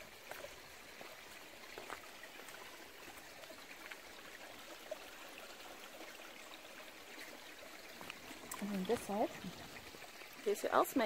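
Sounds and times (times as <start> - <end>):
stream babbling over stones: 0.0 - 11.0.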